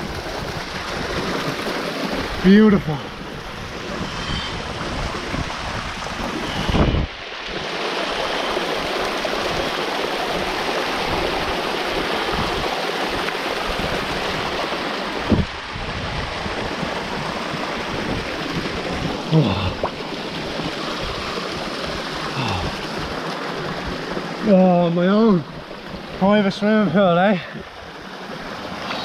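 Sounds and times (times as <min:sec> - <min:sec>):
waterfall pouring into pool: 0:00.0 - 0:04.0, 0:04.6 - 0:29.0.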